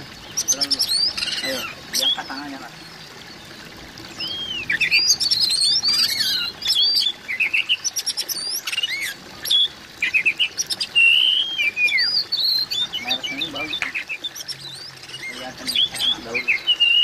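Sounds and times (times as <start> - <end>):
bird singing whistled notes: 0.3 - 3.0, 4.2 - 17.0.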